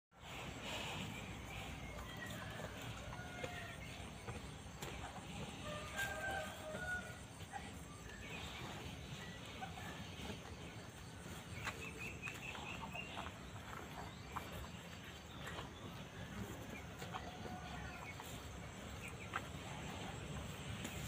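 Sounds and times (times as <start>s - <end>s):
low background noise: 0.2s - 21.0s.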